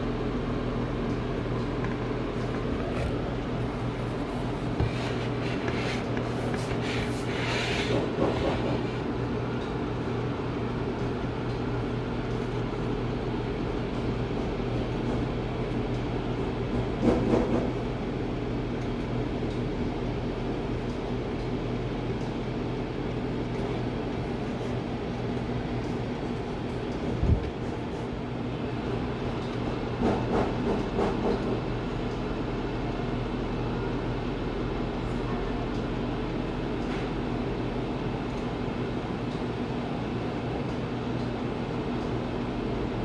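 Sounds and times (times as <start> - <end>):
oven fan motor hum: 0.0 - 43.0.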